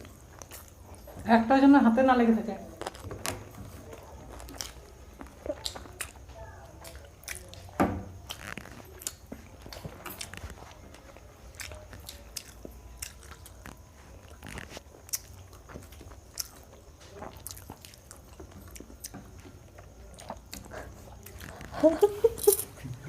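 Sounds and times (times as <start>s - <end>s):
chewing food: 0.0s - 1.3s, 2.6s - 23.0s.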